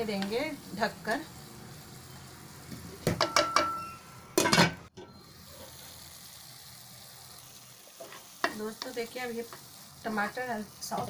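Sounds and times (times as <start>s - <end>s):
vegetables sizzling: 0.0s - 11.0s.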